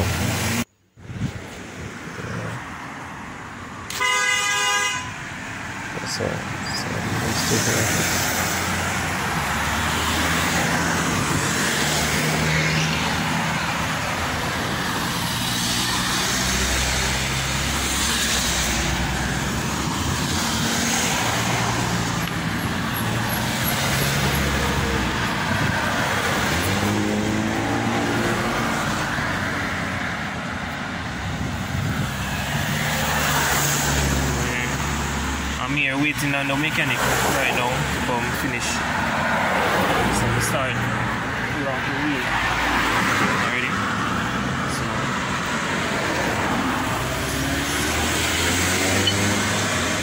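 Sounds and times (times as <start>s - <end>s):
road traffic engine hum: 0.0s - 50.0s
vehicle revving or passing: 6.0s - 50.0s.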